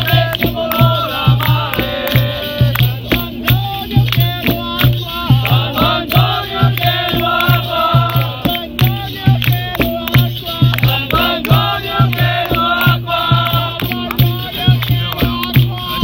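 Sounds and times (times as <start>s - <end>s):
group singing together: 0.0s - 16.0s
hand drum beat: 0.0s - 16.0s
percussive clicks and rattles: 0.0s - 16.0s.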